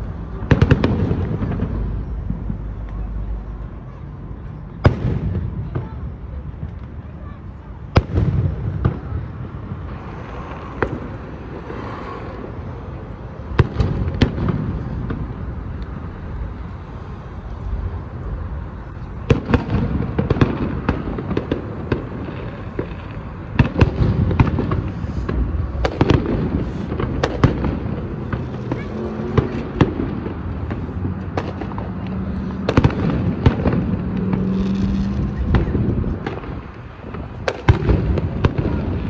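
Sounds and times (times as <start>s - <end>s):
fireworks bangs and crackles: 0.0s - 39.0s
fireworks booming rumble: 0.0s - 39.0s.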